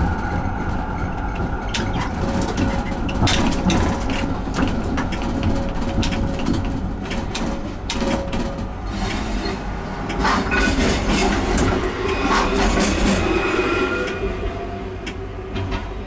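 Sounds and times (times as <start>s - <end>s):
tram rumble: 0.0s - 16.0s
tram wheels clicking over joints: 0.0s - 16.0s.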